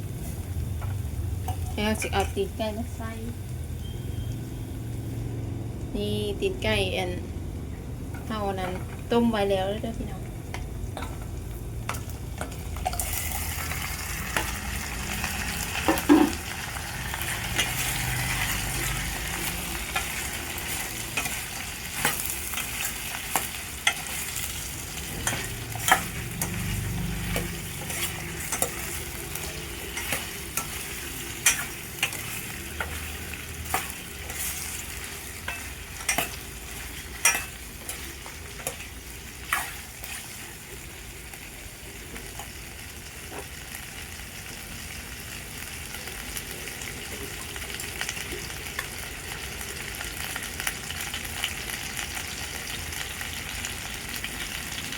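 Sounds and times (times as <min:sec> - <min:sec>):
chicken feet sizzling in a pan: 0:00.0 - 0:07.2, 0:07.9 - 0:54.9.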